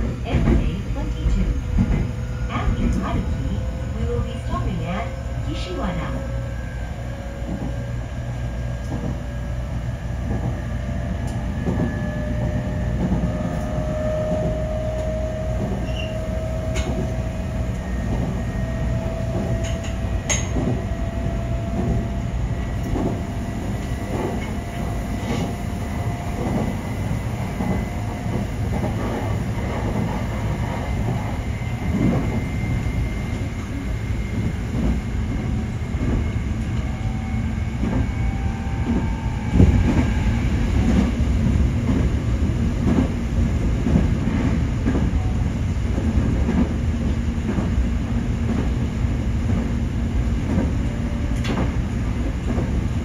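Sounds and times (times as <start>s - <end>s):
electric train rumble and motor whine: 0.0s - 53.0s.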